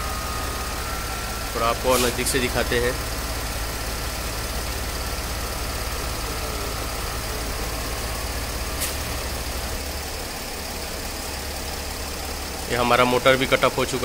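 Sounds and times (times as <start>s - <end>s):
diesel engine idling: 0.0s - 14.0s
suspension compressor running: 0.0s - 14.0s.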